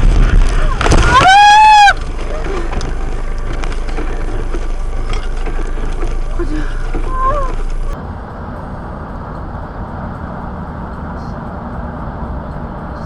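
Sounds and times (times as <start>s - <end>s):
vehicle driving rumble: 0.0s - 13.0s.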